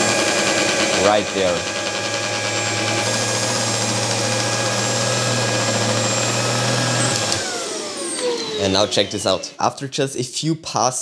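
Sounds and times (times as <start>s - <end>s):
vacuum motor whining: 0.0s - 9.7s.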